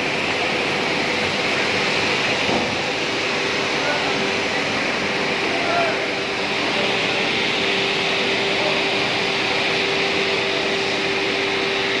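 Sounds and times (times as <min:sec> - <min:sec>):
sanding machine running: 0:00.0 - 0:12.0.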